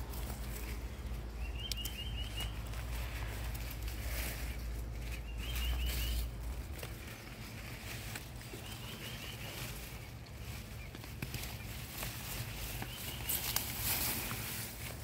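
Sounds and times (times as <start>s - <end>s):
leaves rustling and crackling: 0.0s - 15.0s.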